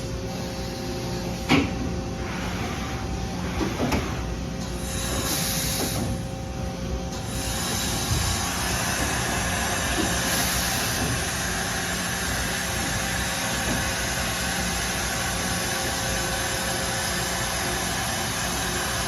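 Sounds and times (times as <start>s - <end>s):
constant machine tone: 0.0s - 19.0s
machine tool humming: 2.2s - 19.0s.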